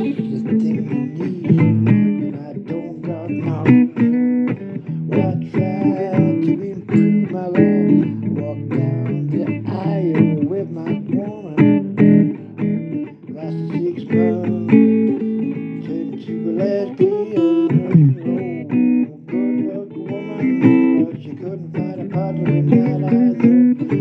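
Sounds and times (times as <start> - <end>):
blues guitar bending notes: 0.0 - 24.0.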